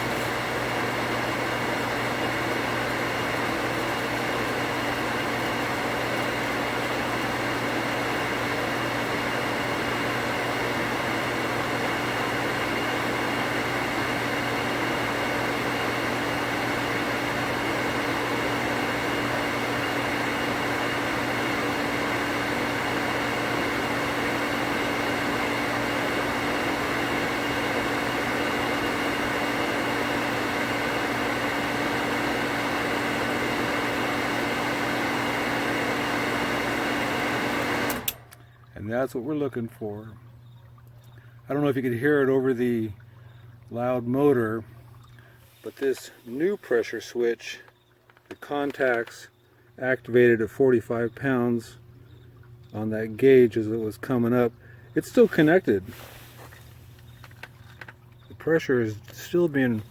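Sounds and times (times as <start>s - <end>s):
pump motor humming: 0.0s - 59.9s.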